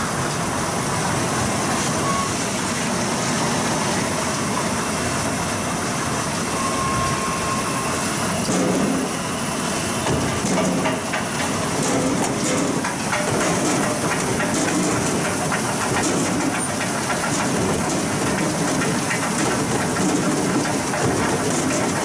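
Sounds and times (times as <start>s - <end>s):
conveyor motor whir and hiss: 0.0s - 22.0s.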